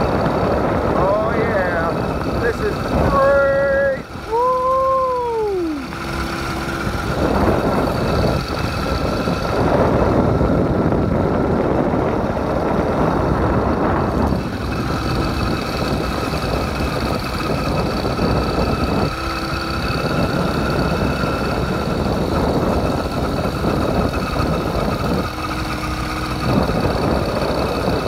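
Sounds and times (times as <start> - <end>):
motorized bike engine whining: 0.0 - 28.0
wind rushing noise: 0.0 - 28.0.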